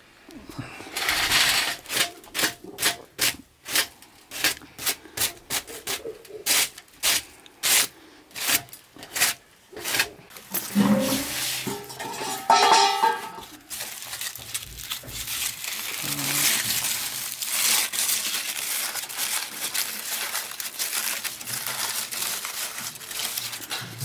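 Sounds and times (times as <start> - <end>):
aluminium foil crinkling: 0.6 - 24.0.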